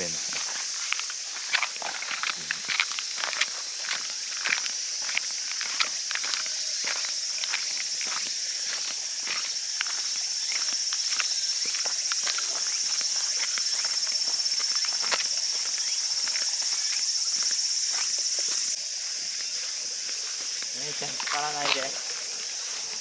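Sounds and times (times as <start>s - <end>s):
footsteps on ground: 0.0s - 23.0s
insects chirring: 0.0s - 23.0s.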